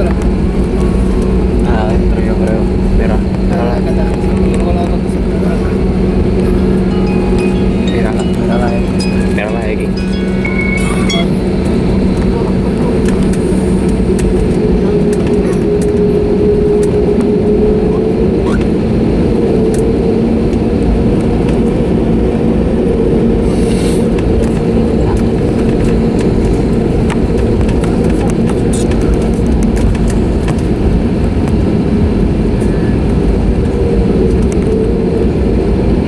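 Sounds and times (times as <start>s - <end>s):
airplane cabin rumble and drone: 0.0s - 36.0s.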